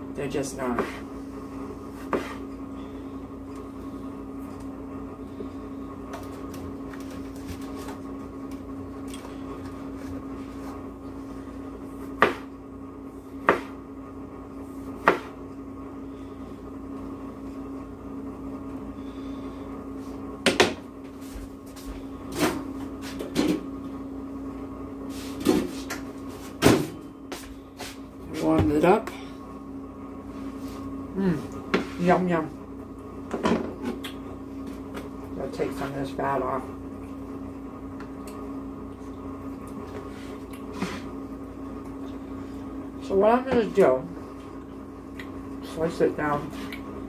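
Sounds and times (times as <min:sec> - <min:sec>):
steady electrical hum: 0:00.0 - 0:47.0.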